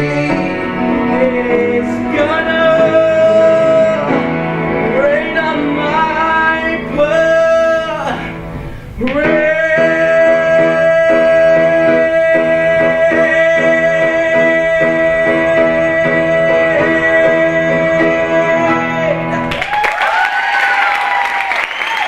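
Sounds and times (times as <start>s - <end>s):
piano accompaniment: 0.0s - 20.2s.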